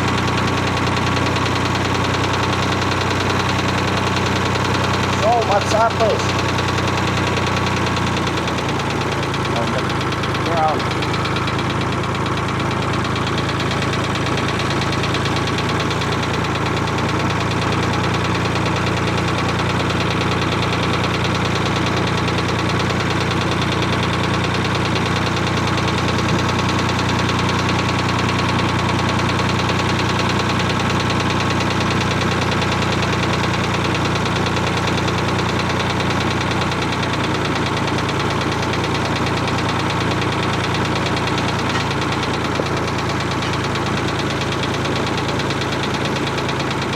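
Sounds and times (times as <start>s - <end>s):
tractor engine running steadily: 0.0s - 46.9s.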